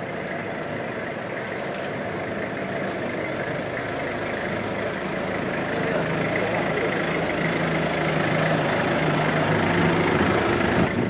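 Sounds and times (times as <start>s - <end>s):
van engine approaching: 0.0s - 11.0s.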